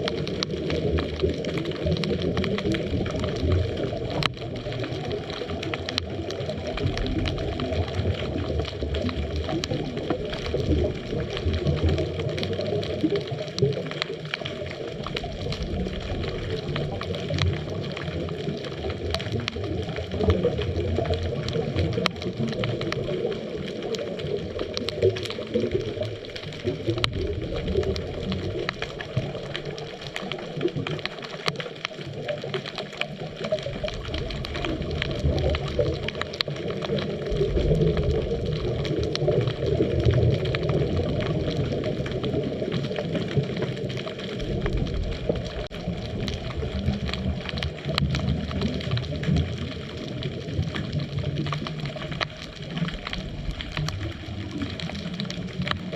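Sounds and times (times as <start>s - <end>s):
small underwater clicks: 0.0s - 55.9s
underwater gurgling water and bubbles: 0.0s - 55.9s.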